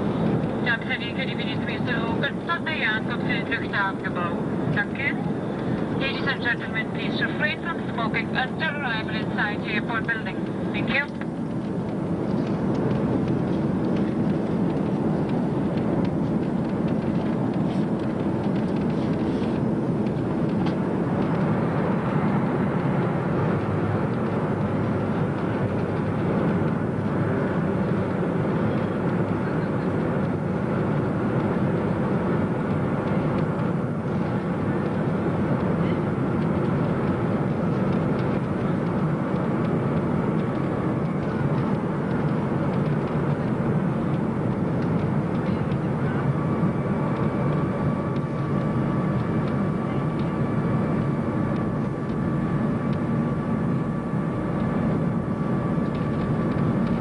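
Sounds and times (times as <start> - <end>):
aircraft cabin engine rush: 0.0 - 57.0
steady high whine: 0.0 - 57.0.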